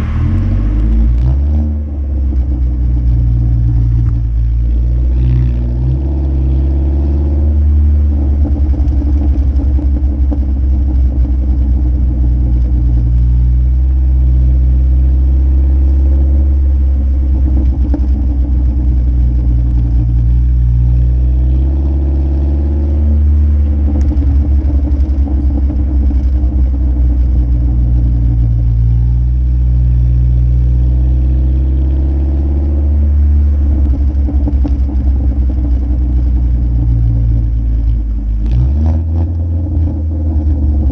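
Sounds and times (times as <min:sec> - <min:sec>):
exhaust crackling: 0:00.0 - 0:40.9
loud car exhaust droning: 0:00.0 - 0:40.9.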